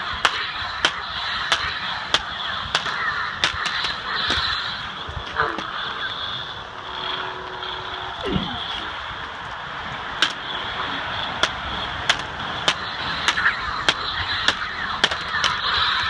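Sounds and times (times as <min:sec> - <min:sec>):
steady high hum: 0:00.0 - 0:16.0
toy lightsabers clashing: 0:00.0 - 0:16.0.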